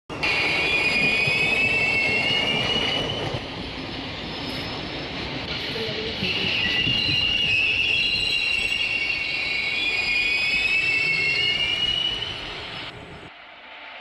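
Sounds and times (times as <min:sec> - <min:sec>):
rumble of train cars: 0:00.1 - 0:14.0
train wheels squealing on rails: 0:00.1 - 0:14.0.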